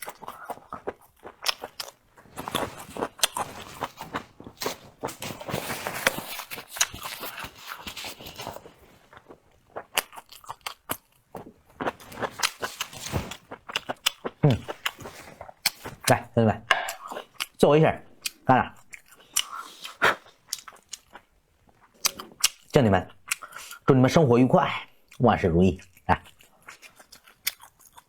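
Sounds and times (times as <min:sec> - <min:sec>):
chewing and crunching food: 0:00.0 - 0:24.0, 0:24.7 - 0:28.0.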